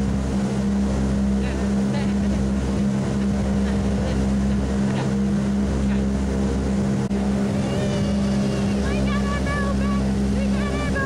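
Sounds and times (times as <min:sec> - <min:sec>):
two-stroke marine engine running: 0:00.0 - 0:11.0
water rushing: 0:00.0 - 0:11.0
wind: 0:00.0 - 0:11.0.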